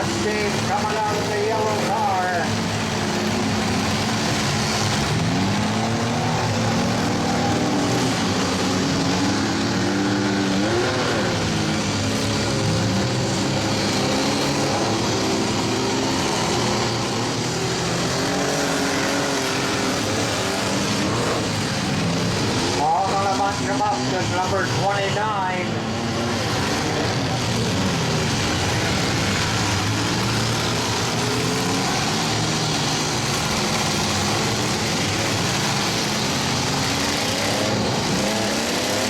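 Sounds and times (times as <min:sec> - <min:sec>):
car engines revving: 0:00.0 - 0:39.0.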